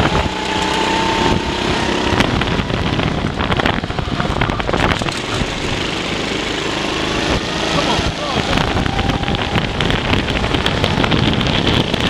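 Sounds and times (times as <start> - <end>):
go-kart engine racing: 0.0 - 12.0
wind buffeting microphone: 0.0 - 12.0.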